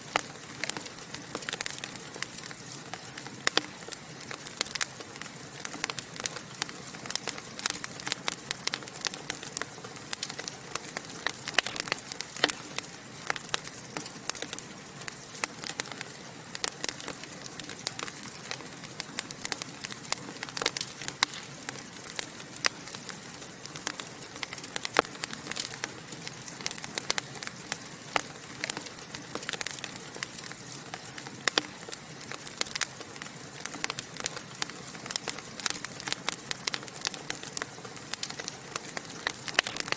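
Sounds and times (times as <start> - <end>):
hiss of flames: 0.0 - 39.9
wood fire crackling and popping: 0.0 - 39.9.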